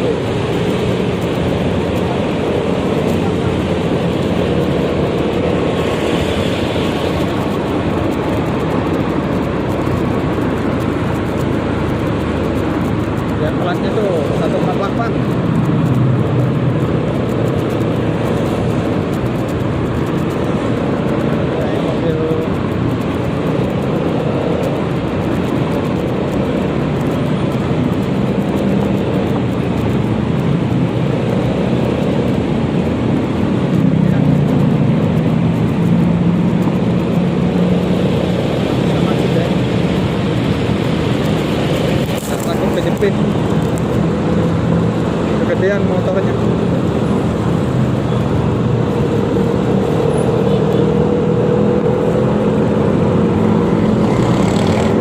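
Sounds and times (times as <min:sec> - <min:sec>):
scooter engine running: 0:00.0 - 0:55.0
wind and road noise: 0:00.0 - 0:55.0.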